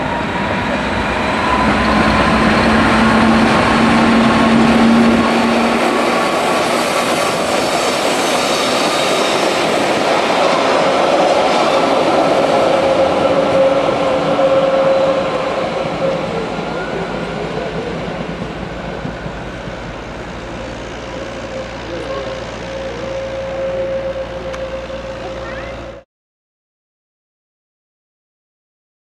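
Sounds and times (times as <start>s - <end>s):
train wheels rumbling on rails: 0.0s - 26.0s
whining tones: 0.0s - 26.0s.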